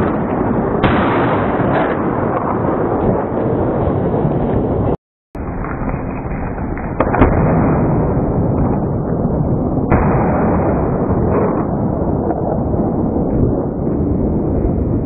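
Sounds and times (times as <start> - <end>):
thunder crack and rumble: 0.0 - 15.0.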